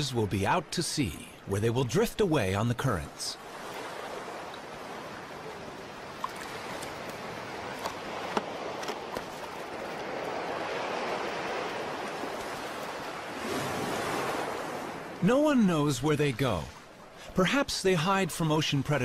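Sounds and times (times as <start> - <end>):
ocean surf washing on sand: 3.3 - 19.0.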